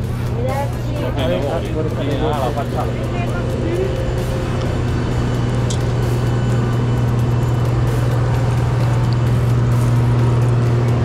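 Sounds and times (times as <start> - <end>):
aircraft machinery humming: 0.0 - 11.0.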